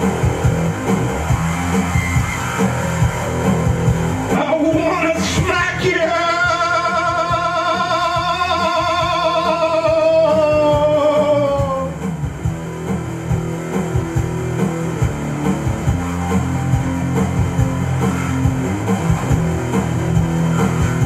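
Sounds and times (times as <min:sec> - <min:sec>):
electric bass guitar: 0:00.0 - 0:21.0.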